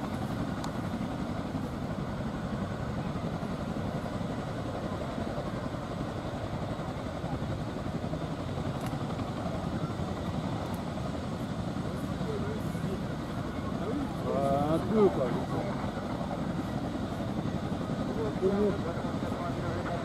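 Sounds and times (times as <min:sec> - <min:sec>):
helicopter engines and rotors running: 0:00.0 - 0:20.0.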